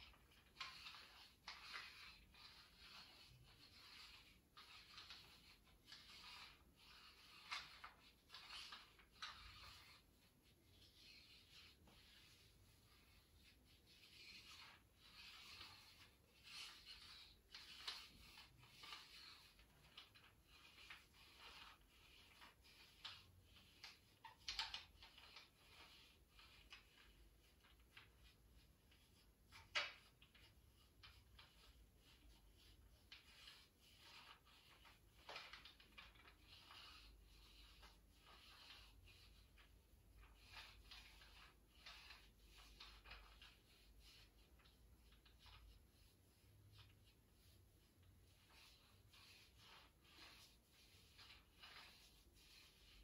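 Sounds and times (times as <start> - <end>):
hands rubbing and brushing skin: 0.0 - 53.0.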